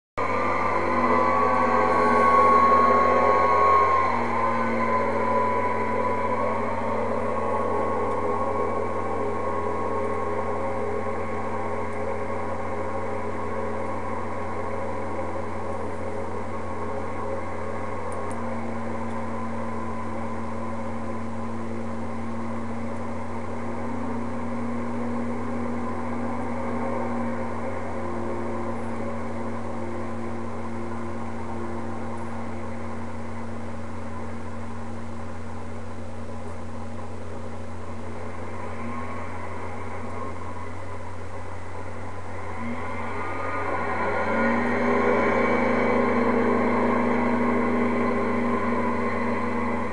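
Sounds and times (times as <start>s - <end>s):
small aircraft engine running: 0.2s - 49.9s.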